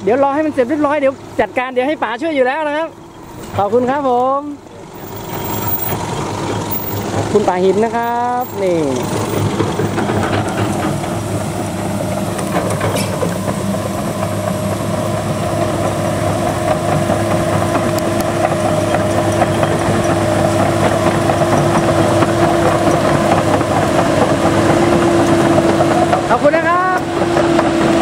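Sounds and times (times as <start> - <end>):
engine whine: 0.0 - 28.0
excavator diesel engine running: 0.0 - 28.0.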